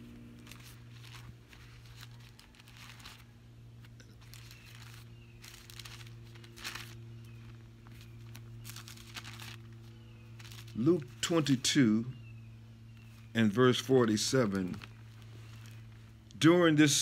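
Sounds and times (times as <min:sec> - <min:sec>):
paper pages rustling: 0:00.0 - 0:11.6, 0:13.0 - 0:16.2
low steady hum: 0:00.0 - 0:17.0.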